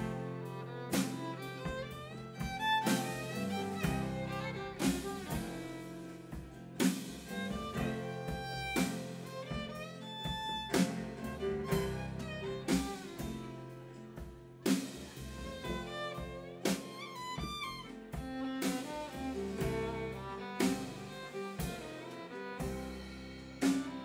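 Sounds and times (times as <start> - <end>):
acoustic guitar: 0.0 - 24.0
fiddle melody: 0.0 - 24.0
upright bass: 0.0 - 24.0.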